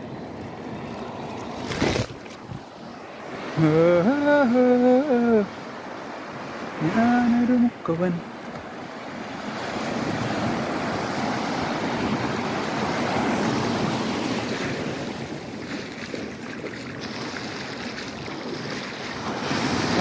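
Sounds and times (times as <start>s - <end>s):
surf breaking and washing: 0.0s - 20.0s.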